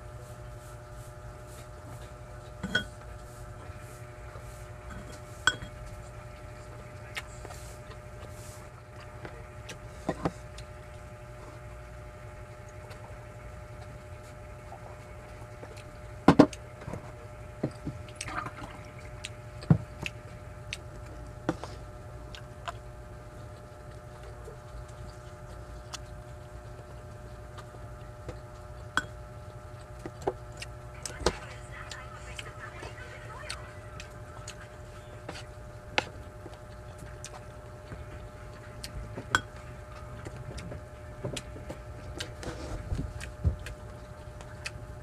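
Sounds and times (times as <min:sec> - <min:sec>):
person eating by hand: 0:00.0 - 0:45.0
steady low hum: 0:00.0 - 0:45.0.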